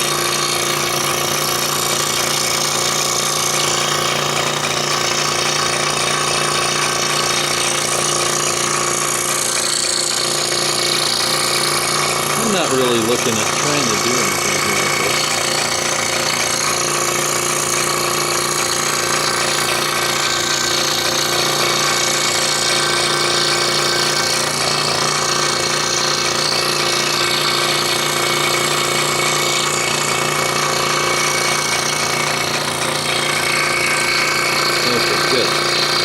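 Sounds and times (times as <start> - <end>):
scroll saw cutting wood: 0.0 - 36.0.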